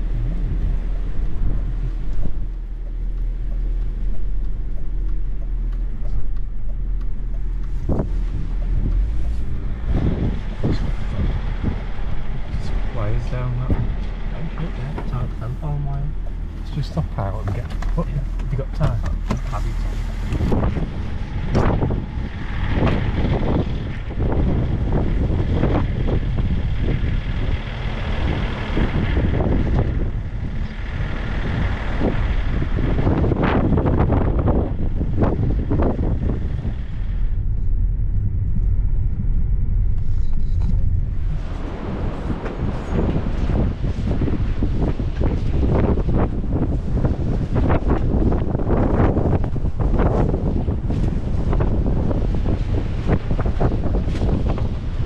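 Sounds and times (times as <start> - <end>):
car engine idling: 0.0 - 55.0
storm wind: 0.0 - 55.0.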